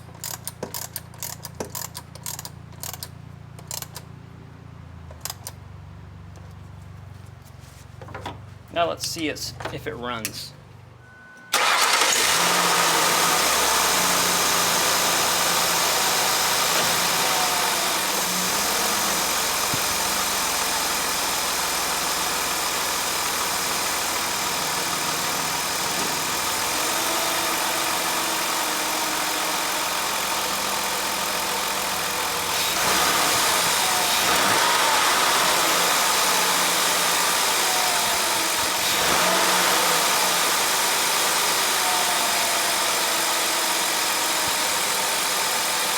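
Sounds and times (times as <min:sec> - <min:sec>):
car engine idling: 0:08.4 - 0:45.9.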